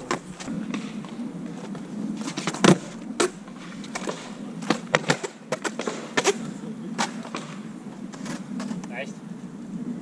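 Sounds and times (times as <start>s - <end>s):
skateboard clacking on ground: 0.0s - 9.2s
skateboard wheels rolling: 0.0s - 10.0s.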